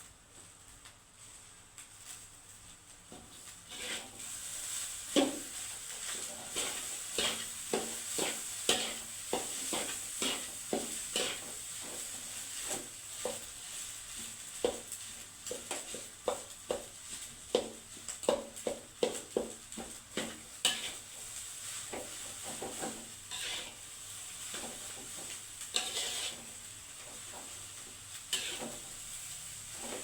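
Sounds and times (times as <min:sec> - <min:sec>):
rice sizzling: 0:00.0 - 0:30.0
spatula scraping a pan: 0:03.1 - 0:30.0.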